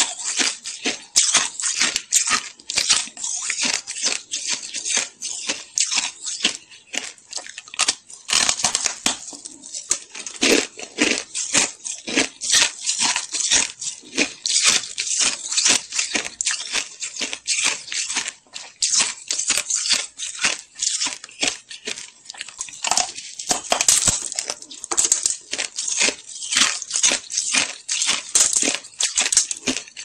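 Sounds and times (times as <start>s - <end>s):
crunching shaved ice: 0.0s - 30.0s.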